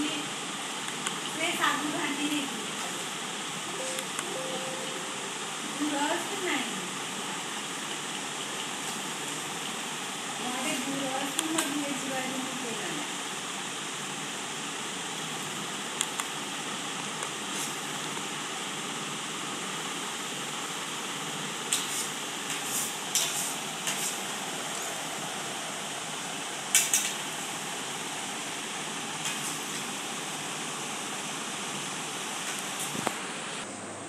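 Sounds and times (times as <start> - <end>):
background hiss: 0.0 - 33.6.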